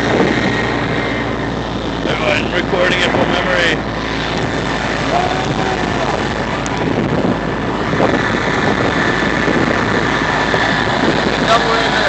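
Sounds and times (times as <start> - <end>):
fire truck engine running: 0.0 - 12.0
water spray rushing: 0.0 - 12.0.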